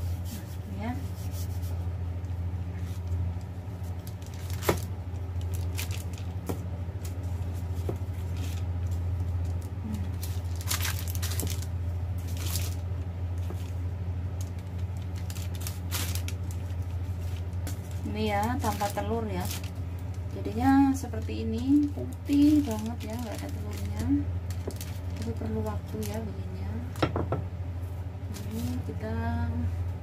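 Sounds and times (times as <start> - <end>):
baking paper crinkling: 0.0 - 27.0, 27.8 - 29.1
low hum: 0.0 - 30.0.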